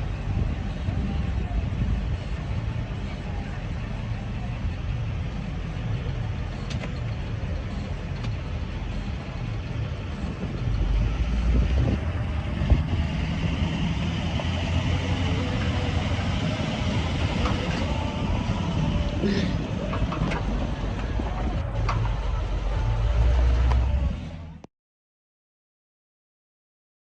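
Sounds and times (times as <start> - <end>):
fire truck engine idling: 0.0 - 24.6.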